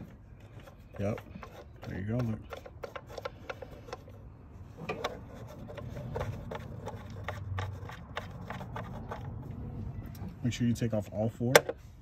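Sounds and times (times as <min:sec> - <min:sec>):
bolts clicking and scraping: 0:00.0 - 0:12.0.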